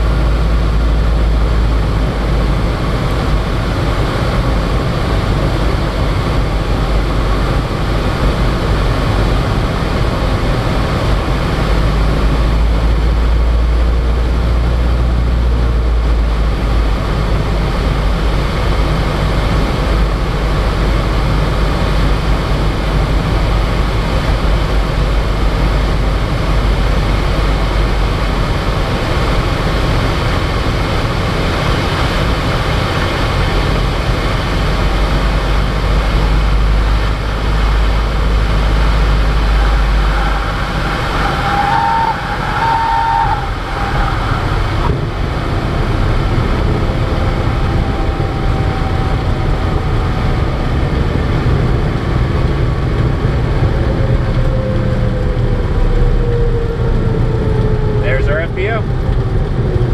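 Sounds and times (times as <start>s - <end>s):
wind noise: 0.0s - 58.2s
airplane engine and propeller: 0.0s - 59.9s.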